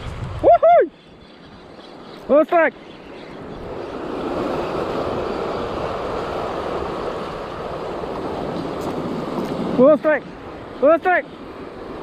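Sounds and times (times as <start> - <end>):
sea surf washing over rocks: 2.2 - 12.0.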